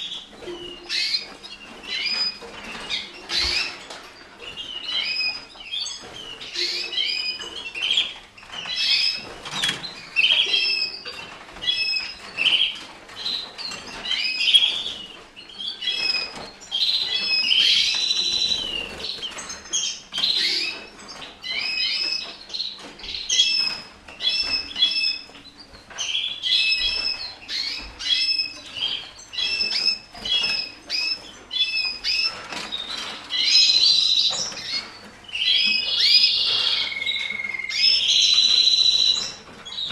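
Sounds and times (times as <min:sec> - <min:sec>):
canaries chirping and trilling: 0:00.0 - 0:39.9.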